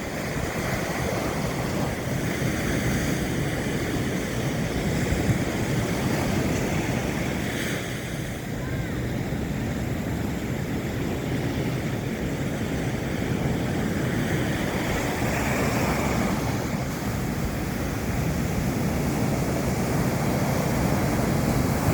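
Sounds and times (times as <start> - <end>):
sea surf washing on beach: 0.0 - 21.9
wind rumbling on microphone: 0.0 - 21.9.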